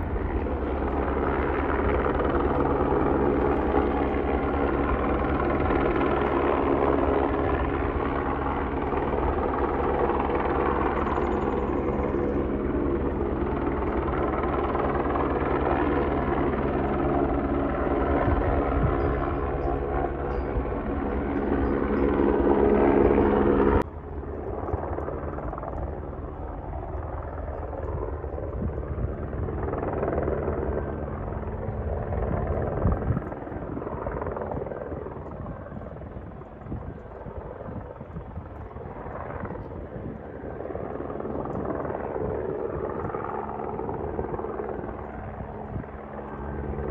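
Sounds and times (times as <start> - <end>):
helicopter flying over: 0.0 - 46.9.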